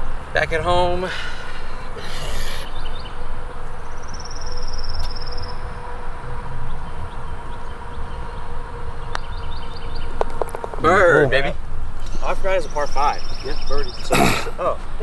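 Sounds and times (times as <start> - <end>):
wind rumbling on microphone: 0.0 - 15.0
faint chirps: 1.2 - 11.2, 12.0 - 14.8.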